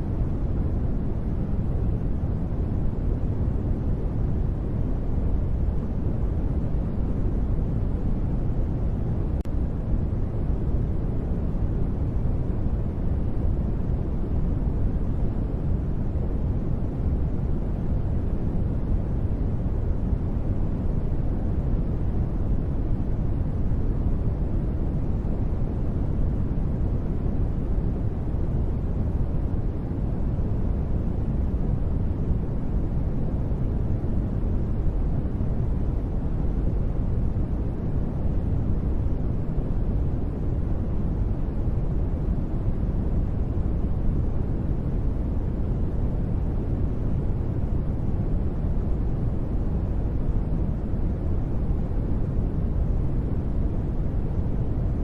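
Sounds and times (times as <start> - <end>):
deep rumbly white noise: 0.0 - 55.0.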